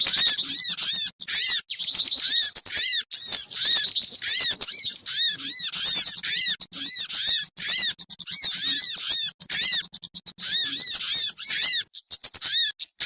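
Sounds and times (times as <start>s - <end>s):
rapid high bird chirps: 0.0s - 13.0s
repeated arched bird call: 0.0s - 13.0s.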